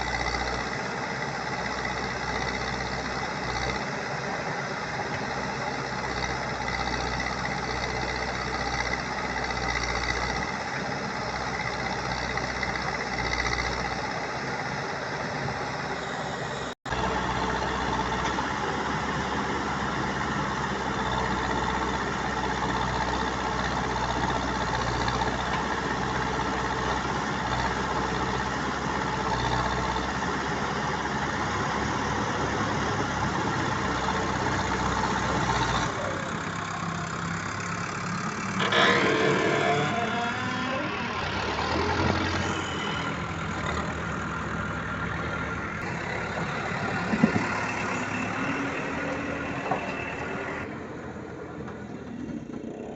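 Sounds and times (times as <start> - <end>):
backhoe diesel engine running: 0.0 - 52.9.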